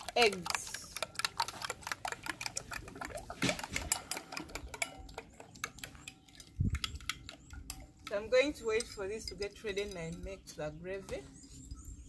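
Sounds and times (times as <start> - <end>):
metal spoon beating eggs in bowl: 0.0 - 11.8.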